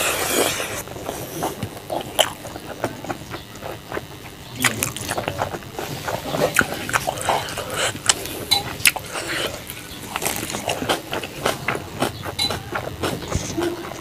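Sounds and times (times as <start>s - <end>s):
fingers squishing food: 0.0s - 14.0s
wet chewing and lip smacking: 0.0s - 14.0s.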